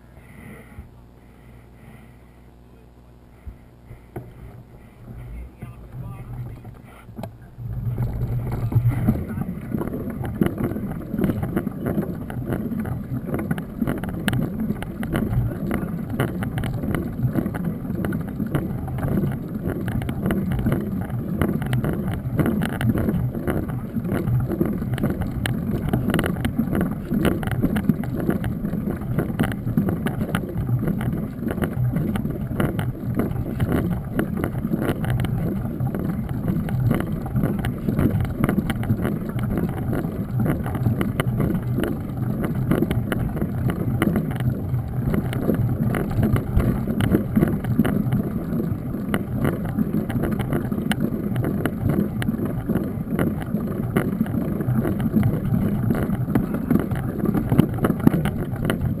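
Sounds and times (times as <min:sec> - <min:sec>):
bike tyres rumbling on asphalt: 0:03.3 - 0:59.0
small rattles and clicks: 0:03.5 - 0:59.0
wind buffeting microphone: 0:04.4 - 0:59.0.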